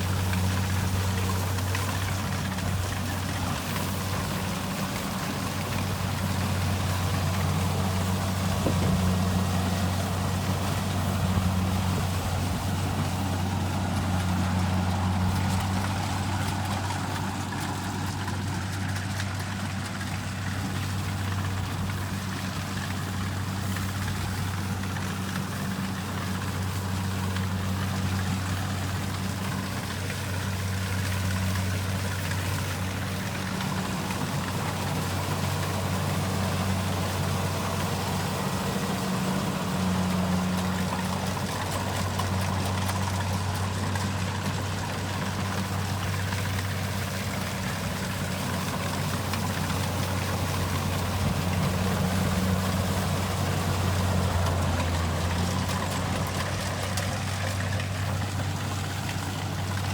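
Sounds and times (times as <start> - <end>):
combine harvester diesel engine: 0.0 - 59.9.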